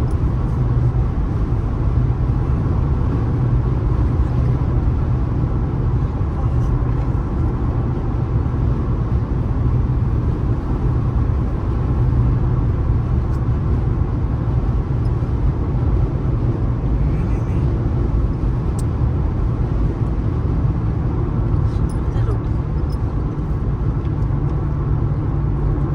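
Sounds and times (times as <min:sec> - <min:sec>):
car engine rumble: 0:00.0 - 0:25.9
tyre road noise: 0:00.0 - 0:25.9.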